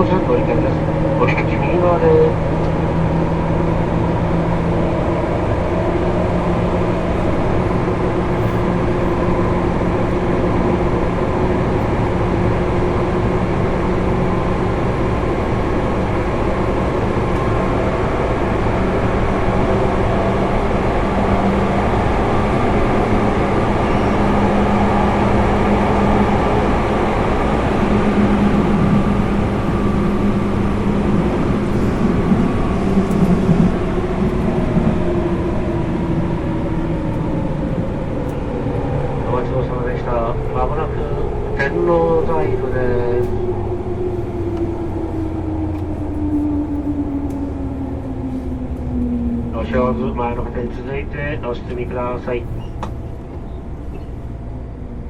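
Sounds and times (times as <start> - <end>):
rail and wheel noise: 0.0 - 55.0
train motor hum and whine: 0.0 - 55.0.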